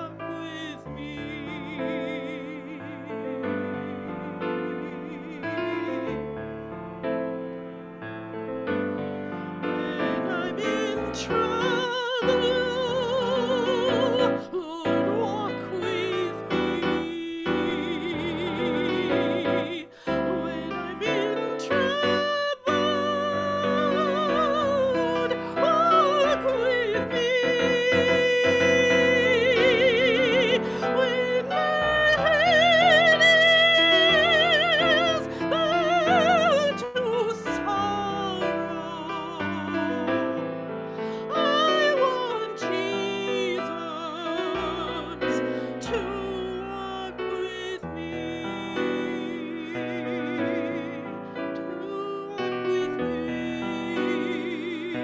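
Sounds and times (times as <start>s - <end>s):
classical solo singing: 0.0s - 55.0s
piano accompaniment: 0.0s - 55.0s.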